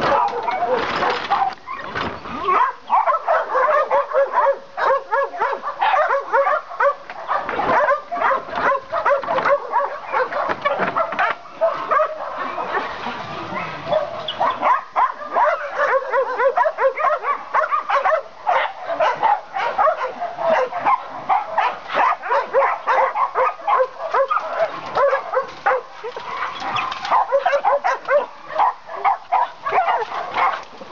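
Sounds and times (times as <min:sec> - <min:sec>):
many dogs barking: 0:00.0 - 0:30.9.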